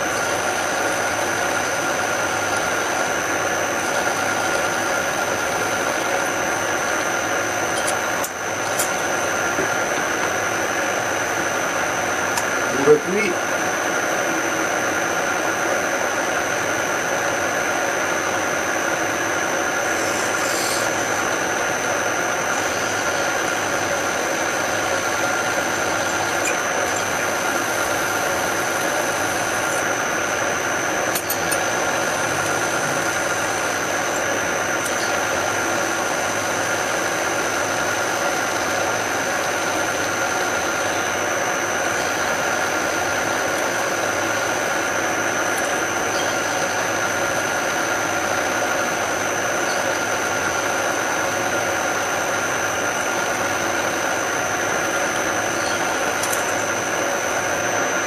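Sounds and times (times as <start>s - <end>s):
drill motor hum with high whine: 0.0s - 58.0s.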